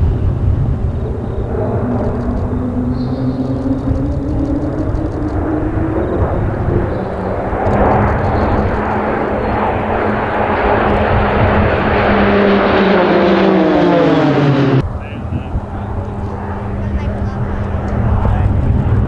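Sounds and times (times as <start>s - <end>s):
propeller planes flying over: 0.0s - 19.0s.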